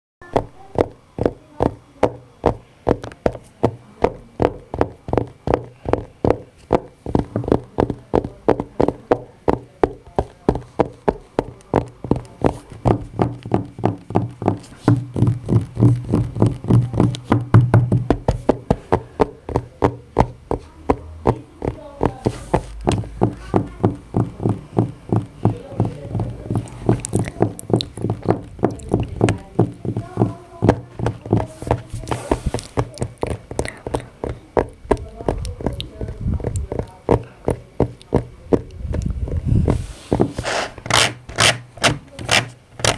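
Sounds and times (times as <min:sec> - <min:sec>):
fast even knocks: 0:00.2 - 0:42.9.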